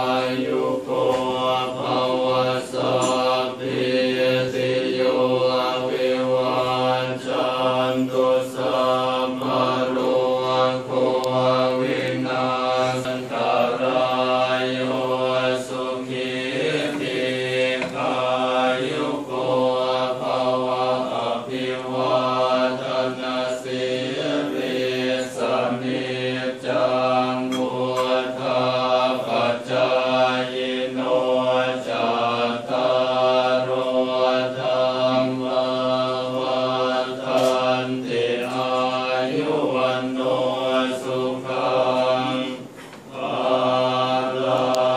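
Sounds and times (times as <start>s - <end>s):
monks chanting in unison: 0.0s - 44.9s.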